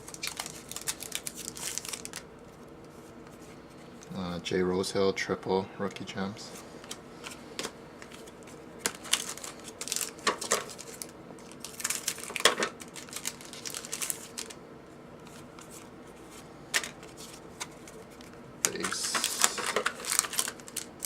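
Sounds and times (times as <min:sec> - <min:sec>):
cards rustling and clicking: 0:00.0 - 0:04.1, 0:06.6 - 0:14.6, 0:15.2 - 0:21.0.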